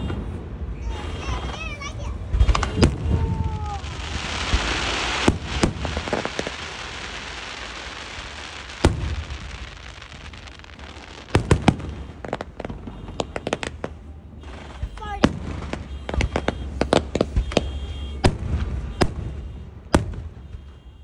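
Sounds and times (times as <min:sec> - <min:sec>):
firework bangs: 0:00.0 - 0:21.0
fireworks hissing crackle: 0:00.8 - 0:20.7
firework pops: 0:02.3 - 0:20.9.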